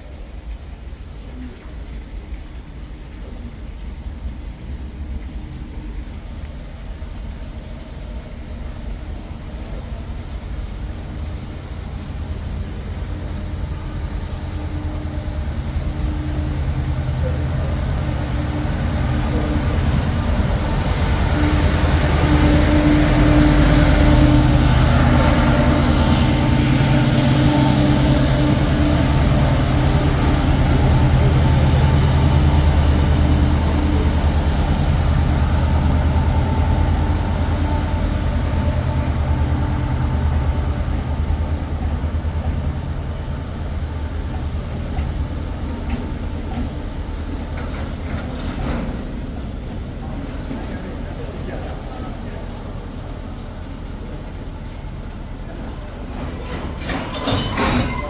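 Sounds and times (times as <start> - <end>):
train running close by: 0.0 - 58.0.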